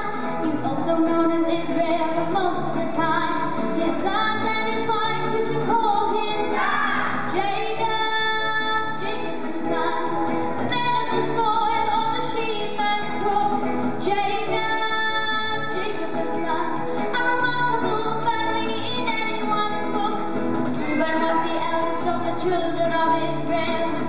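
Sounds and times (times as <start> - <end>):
instrumental backing: 0.0 - 24.0.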